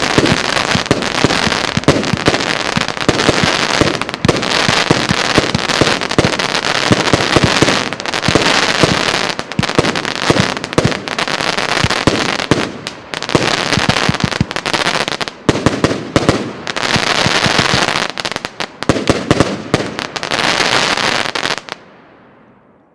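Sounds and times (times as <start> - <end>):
firework crackling bursts: 0.0 - 21.8.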